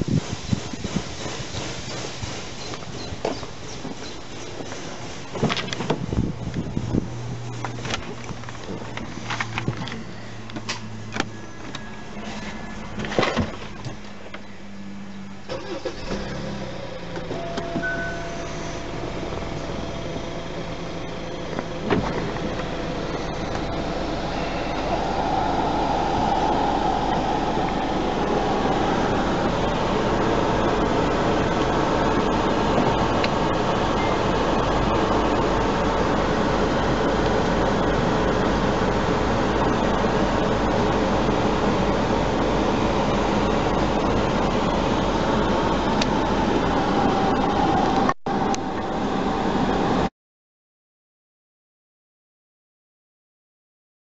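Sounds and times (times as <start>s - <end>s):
ventilation fan blowing: 0.0s - 11.4s, 14.6s - 50.1s
car engine idling: 0.0s - 49.9s.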